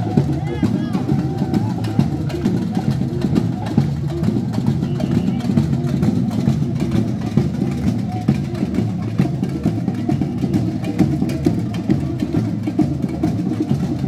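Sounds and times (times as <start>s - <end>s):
crowd voices: 0.0s - 14.0s
samba drumming: 0.0s - 14.0s.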